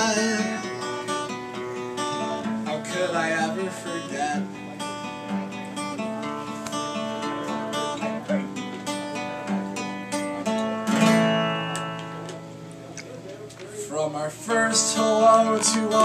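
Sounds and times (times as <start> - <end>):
acoustic guitar strumming chords: 0.0 - 13.0, 13.8 - 16.0.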